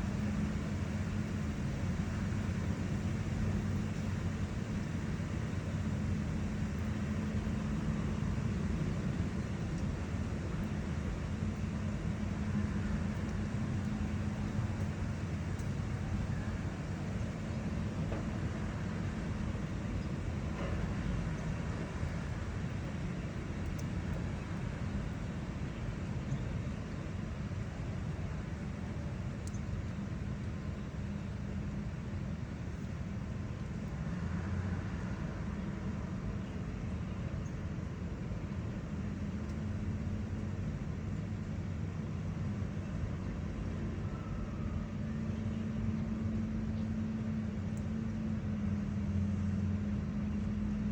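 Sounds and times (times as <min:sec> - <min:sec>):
large engine humming: 0:00.0 - 0:50.9.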